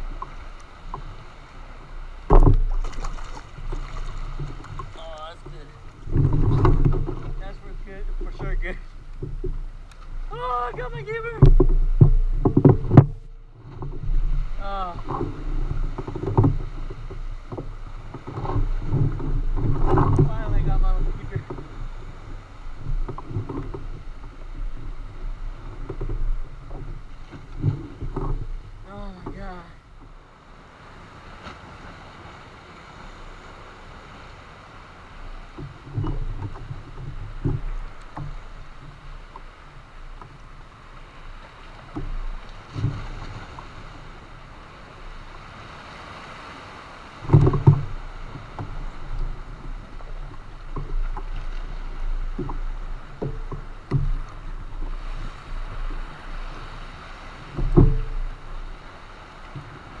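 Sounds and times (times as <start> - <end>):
water lapping against hull: 0.0 - 60.0
low thumps and knocks: 2.1 - 30.2, 35.5 - 45.4, 47.2 - 60.0
wind on microphone: 2.2 - 29.8, 35.4 - 60.0.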